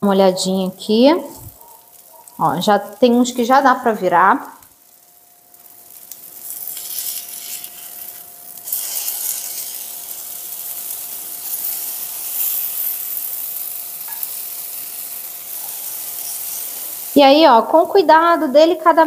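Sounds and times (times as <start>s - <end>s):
fritters sizzling in oil: 0.8s - 19.0s.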